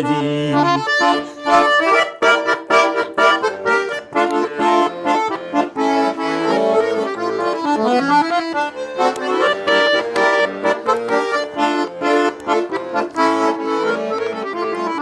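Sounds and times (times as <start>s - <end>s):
button accordion melody: 0.0s - 15.0s.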